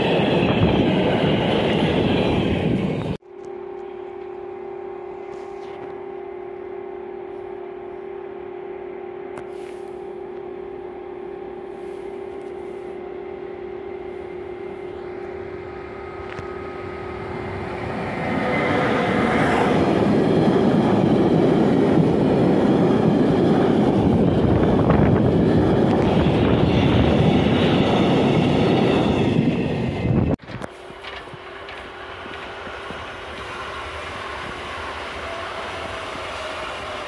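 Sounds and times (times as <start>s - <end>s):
electric locomotive hum: 0.0s - 37.0s.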